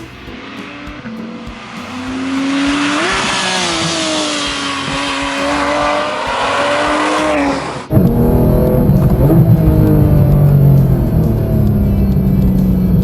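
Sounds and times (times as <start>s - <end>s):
sports car engine revving: 0.0s - 13.0s.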